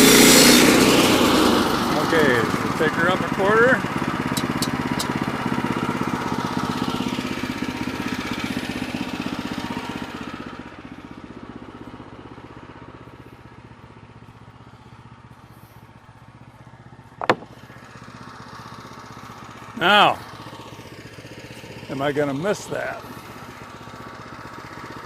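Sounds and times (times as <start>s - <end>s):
small gasoline engine running: 0.0s - 25.0s.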